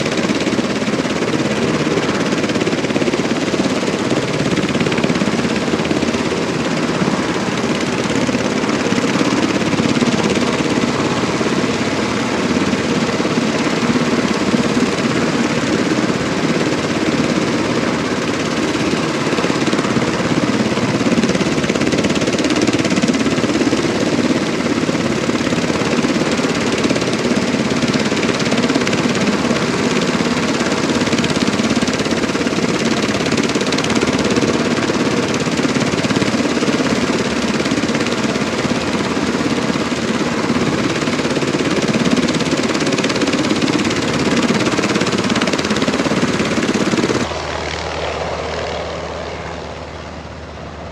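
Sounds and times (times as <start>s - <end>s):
helicopter engine noise: 0.0s - 50.9s
helicopter rotor blades beating: 0.0s - 50.9s.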